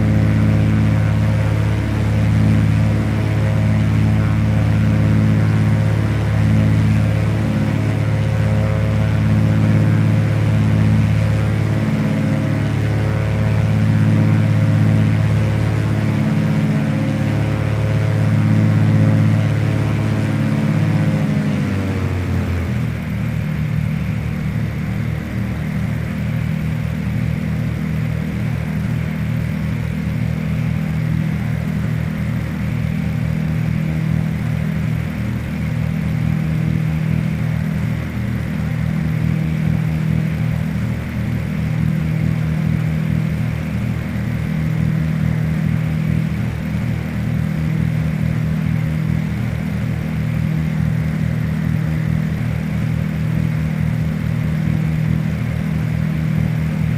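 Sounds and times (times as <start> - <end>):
aircraft piston engines droning: 0.0 - 56.9.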